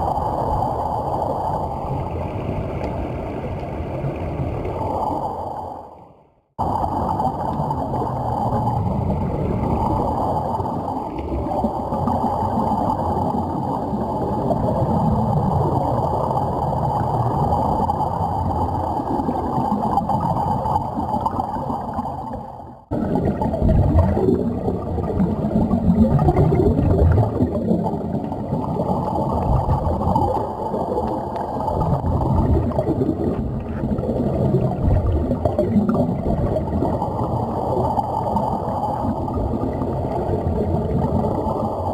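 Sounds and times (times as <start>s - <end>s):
muffled underwater air bubbling: 6.6s - 41.9s.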